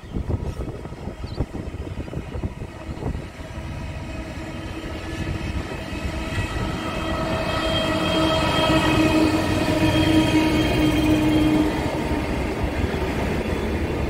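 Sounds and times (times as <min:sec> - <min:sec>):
diesel locomotive engine drone: 0:00.0 - 0:14.0
low train rumble: 0:00.0 - 0:14.0.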